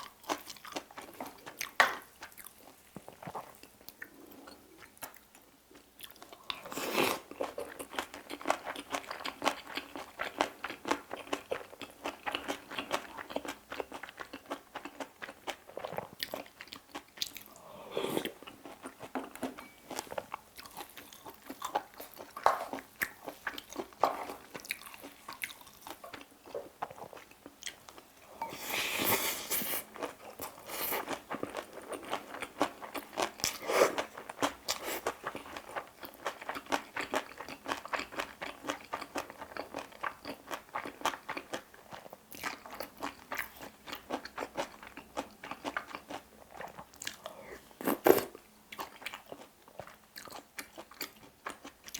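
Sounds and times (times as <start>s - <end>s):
chewing and crunching food: 0.0s - 51.9s.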